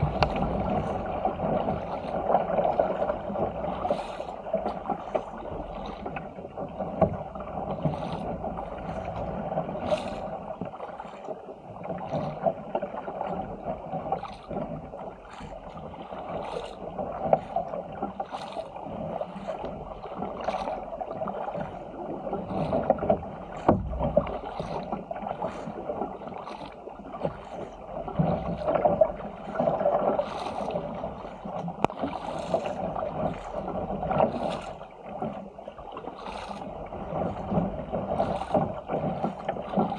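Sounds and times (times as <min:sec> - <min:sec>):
paddle blades splashing: 0:00.0 - 0:39.9
water sloshing along a hull: 0:00.0 - 0:39.9.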